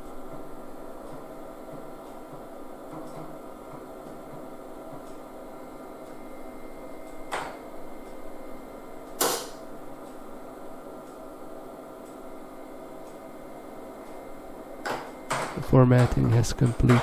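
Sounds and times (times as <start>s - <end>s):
computer hum: 0.0s - 17.0s.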